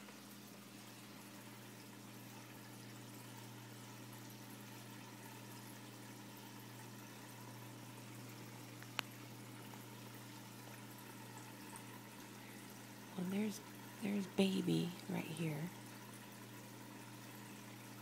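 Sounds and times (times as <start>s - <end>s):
tank filter humming: 0.0s - 18.0s
water trickling: 0.0s - 18.0s.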